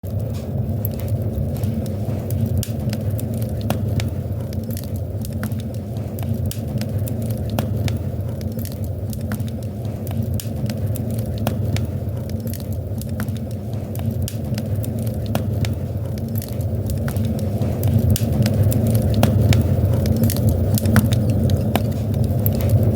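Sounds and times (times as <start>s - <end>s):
fire crackling and popping: 0.0s - 22.9s
low rumble of burning: 0.0s - 22.9s.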